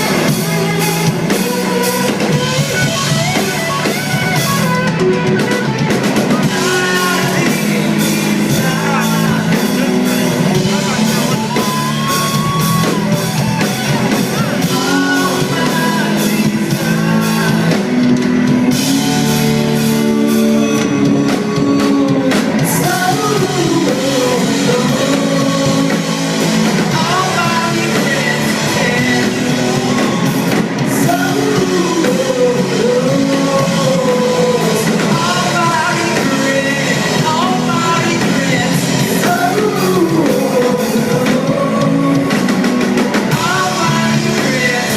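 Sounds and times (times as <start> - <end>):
bass guitar: 0.0 - 44.9
drum kit beat: 0.0 - 44.9
electric guitar: 0.0 - 44.9
person singing: 0.0 - 44.9.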